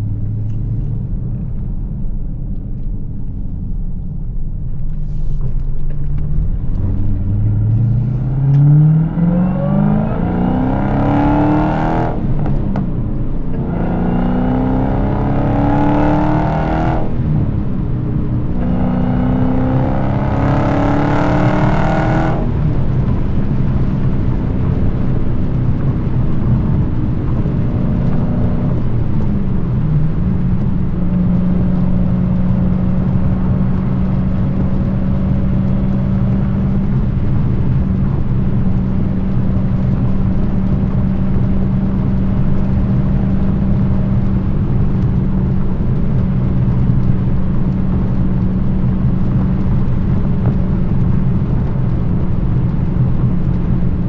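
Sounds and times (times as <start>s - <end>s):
car engine accelerating hard: 4.8s - 54.0s.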